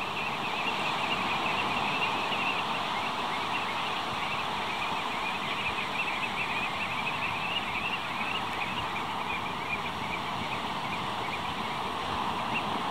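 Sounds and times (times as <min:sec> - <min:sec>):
plovers calling: 0:00.0 - 0:12.9.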